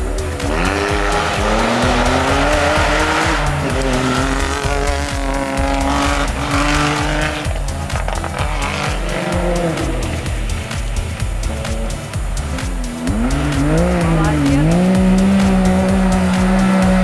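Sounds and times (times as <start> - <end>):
engine accelerating hard: 0.0 - 17.0.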